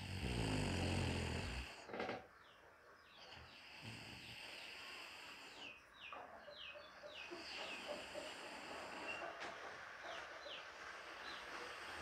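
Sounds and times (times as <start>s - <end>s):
background hiss: 0.0s - 6.1s, 7.1s - 12.0s
bird chirping: 0.9s - 9.4s, 10.0s - 11.8s.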